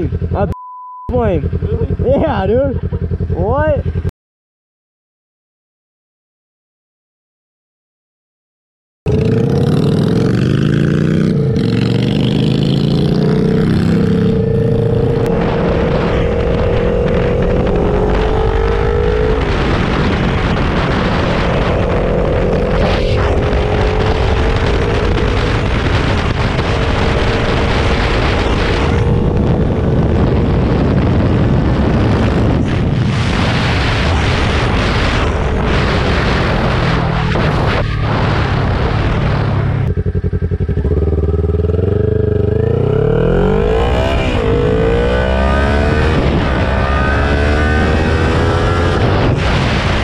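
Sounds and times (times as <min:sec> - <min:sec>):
motorcycle engine accelerating: 0:00.0 - 0:04.1, 0:09.1 - 0:50.0
wind rush on microphone: 0:09.8 - 0:50.0.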